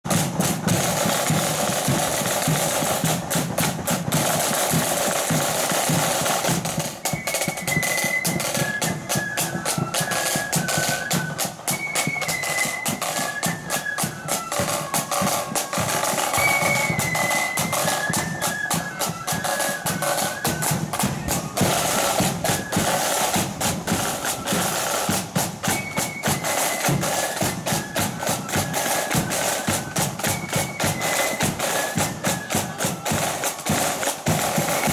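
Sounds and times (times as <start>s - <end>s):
side drums and bass drum: 0.0s - 34.9s
flutes playing high tune: 0.1s - 34.9s.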